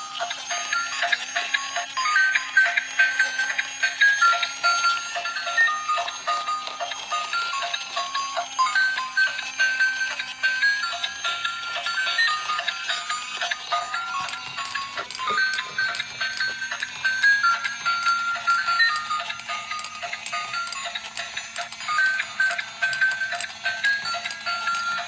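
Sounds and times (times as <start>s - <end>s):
tinkly electronic melody: 0.0s - 25.0s.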